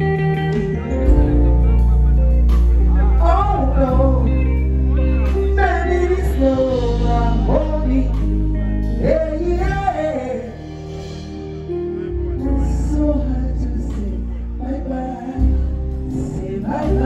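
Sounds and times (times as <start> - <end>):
heavy bass: 0.0 - 17.0
man singing: 0.0 - 17.0.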